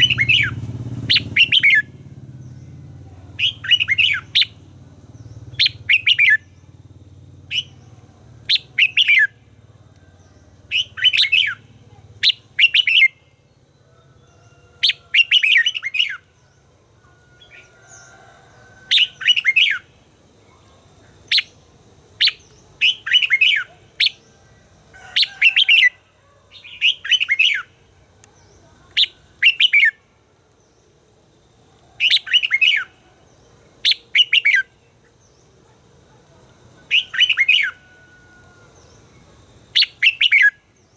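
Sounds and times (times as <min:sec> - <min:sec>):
bird singing warbled phrases: 0:00.0 - 0:18.2, 0:18.9 - 0:40.9.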